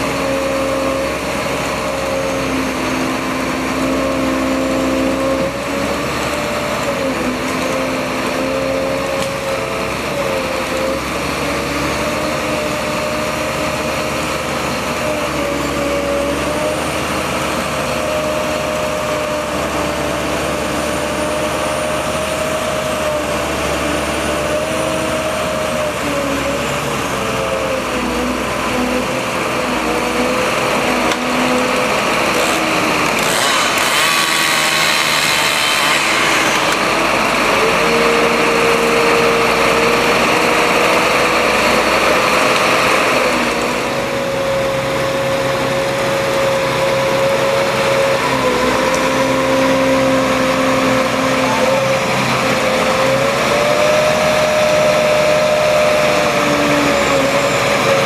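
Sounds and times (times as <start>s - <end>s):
crane engine and hydraulic whine: 0.0s - 58.0s.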